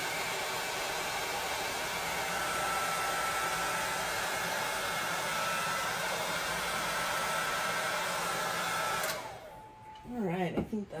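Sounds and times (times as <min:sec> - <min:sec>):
heat gun blowing air: 0:00.0 - 0:09.8.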